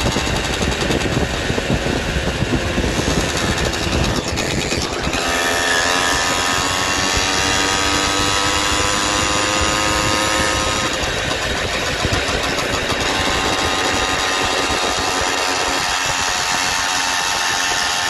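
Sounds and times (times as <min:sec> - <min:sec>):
small motorbike engine running: 0:00.0 - 0:18.0.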